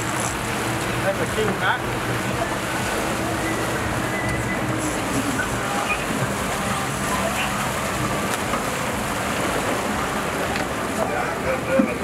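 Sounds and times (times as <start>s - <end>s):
boat engines running: 0.0s - 12.0s
churning wake water: 0.0s - 12.0s.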